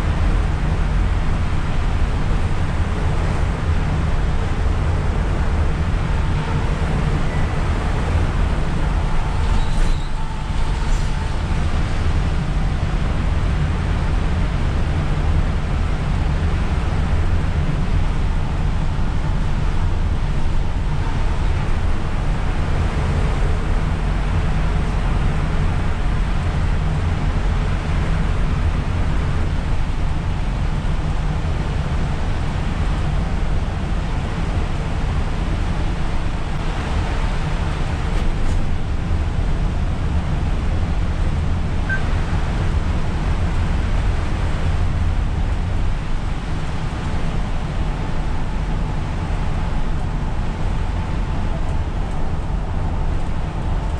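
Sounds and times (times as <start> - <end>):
bus engine rumble: 0.0 - 53.9.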